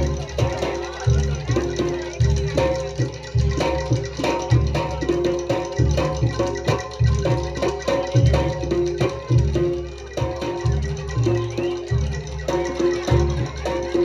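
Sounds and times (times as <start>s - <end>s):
struck metallophone notes: 0.0s - 14.0s.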